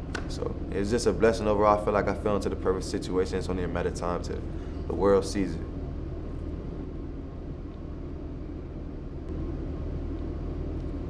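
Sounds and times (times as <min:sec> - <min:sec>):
low background hum and rumble: 0:00.0 - 0:11.0.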